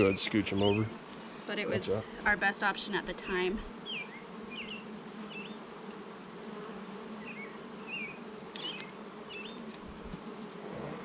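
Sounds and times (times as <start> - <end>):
honey bees humming: 0.0 - 11.0.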